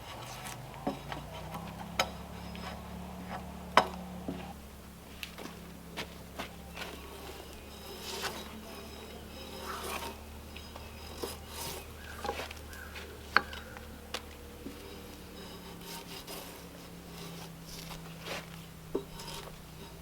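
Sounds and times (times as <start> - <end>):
hand tool scraping wood: 0.0 - 20.0.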